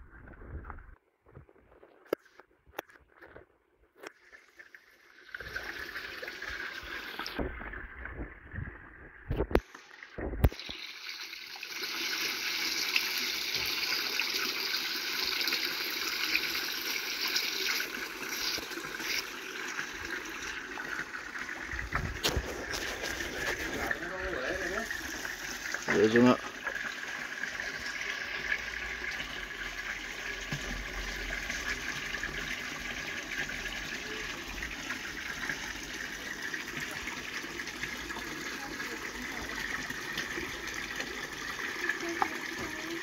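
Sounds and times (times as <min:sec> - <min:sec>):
water pouring into pond: 0:04.0 - 0:43.0.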